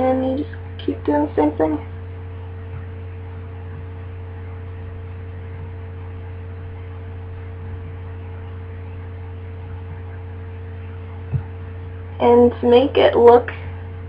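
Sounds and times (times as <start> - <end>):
faint high steady tone: 0.0 - 14.0
low electrical hum: 0.0 - 14.0.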